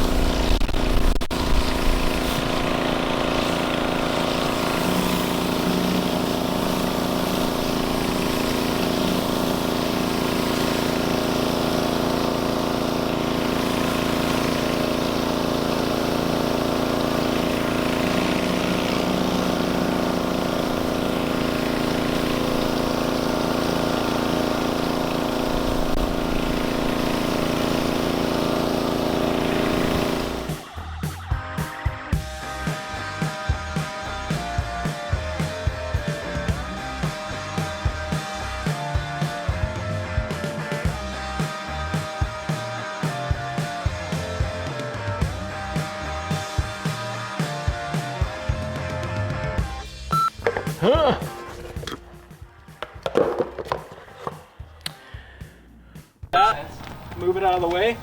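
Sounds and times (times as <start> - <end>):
pressure washer running: 0.0 - 52.0, 56.4 - 58.0.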